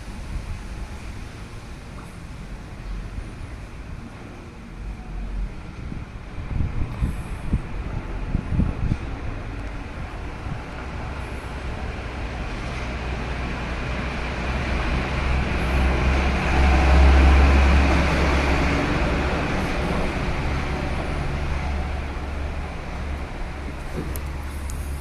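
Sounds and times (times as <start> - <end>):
low rumbling vehicle noise: 0.0 - 25.0.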